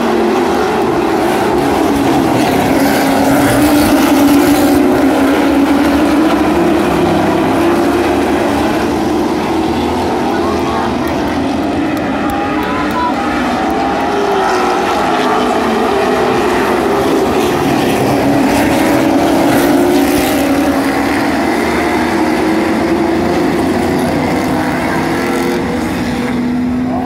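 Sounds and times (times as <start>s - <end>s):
race car engines passing: 0.0s - 27.0s.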